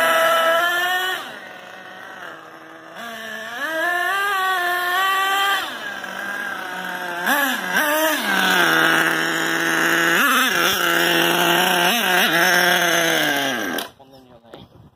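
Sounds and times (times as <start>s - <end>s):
model car engine idling and revving: 0.0s - 14.0s.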